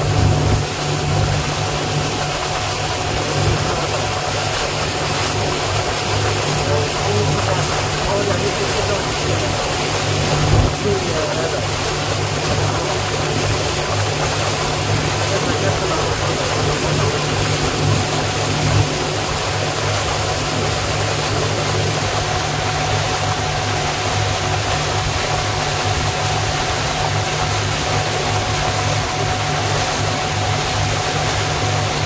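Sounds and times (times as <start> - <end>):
boat engine humming: 0.0 - 32.0
water rushing along hull: 0.0 - 32.0.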